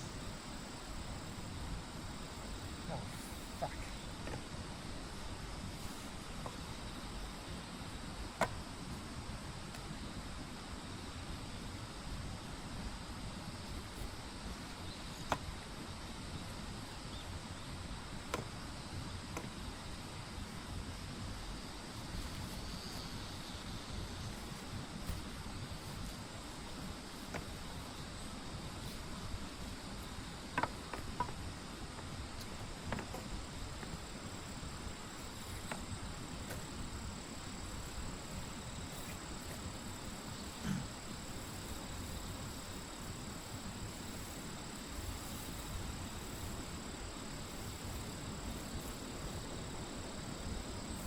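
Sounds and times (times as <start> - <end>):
insects trilling: 0.0 - 51.0.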